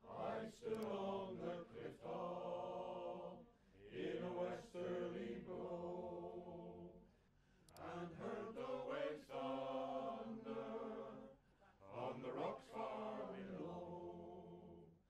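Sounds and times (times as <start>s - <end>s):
choir singing long chords: 0.0s - 7.1s, 7.7s - 15.0s.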